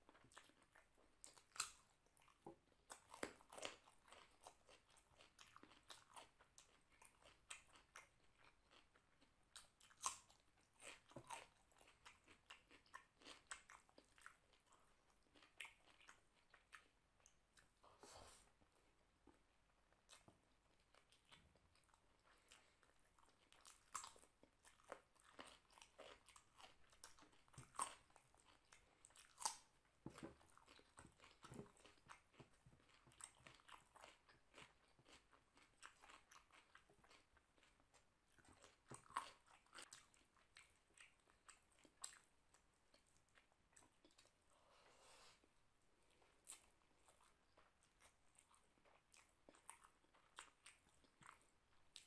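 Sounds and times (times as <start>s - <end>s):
person chewing crunchy food: 0.0s - 18.7s, 19.3s - 45.4s, 46.0s - 52.0s.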